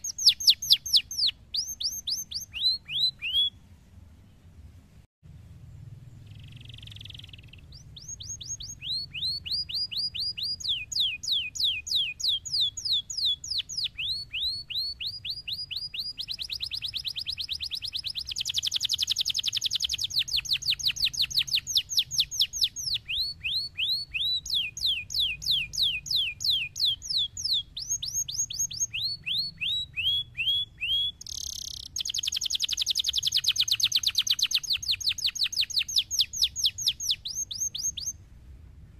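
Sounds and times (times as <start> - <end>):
canary singing trills: 0.0 - 4.5, 6.1 - 38.2.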